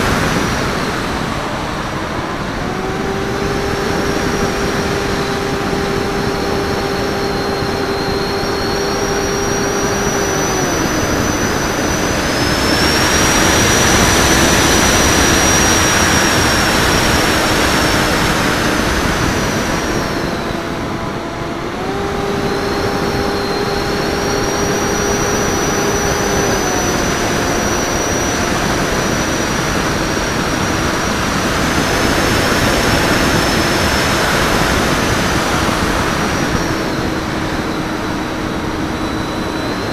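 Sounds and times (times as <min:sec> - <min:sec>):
electric motor and propeller: 0:00.0 - 0:39.9
thin high whine: 0:00.0 - 0:39.9
wind rushing over microphone: 0:00.0 - 0:39.9.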